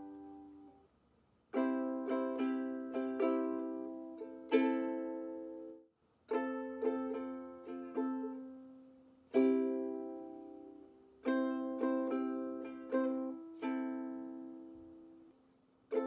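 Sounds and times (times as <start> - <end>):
ukulele strumming: 0.0 - 0.8, 1.5 - 15.3.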